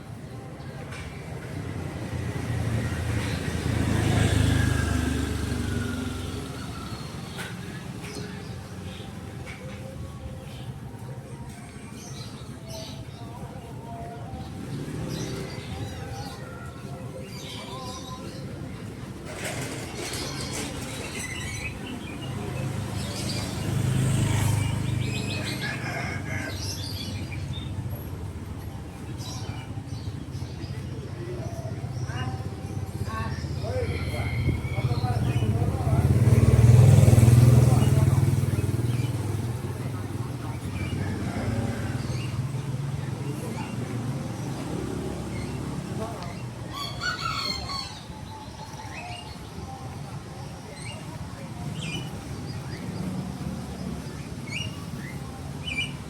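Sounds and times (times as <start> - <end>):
vehicle engine passing by: 1.4 - 9.1, 14.3 - 56.0.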